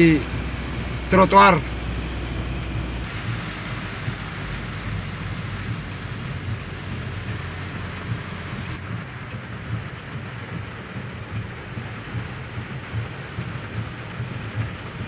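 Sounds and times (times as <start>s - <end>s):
car engine hum: 0.0s - 15.0s
faint high ticking: 0.0s - 15.0s
rain and water spray hiss: 0.0s - 15.0s.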